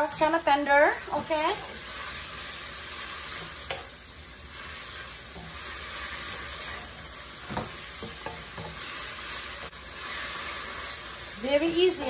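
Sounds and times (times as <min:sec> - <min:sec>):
sprouts sizzling in a wok: 0:00.0 - 0:12.0.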